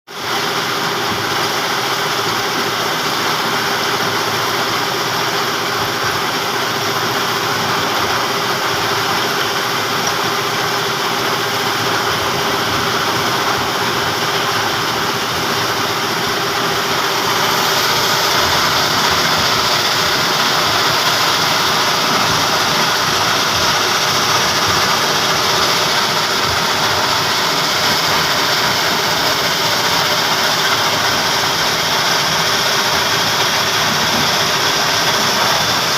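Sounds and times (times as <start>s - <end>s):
stone crusher machine running: 0.2s - 35.9s.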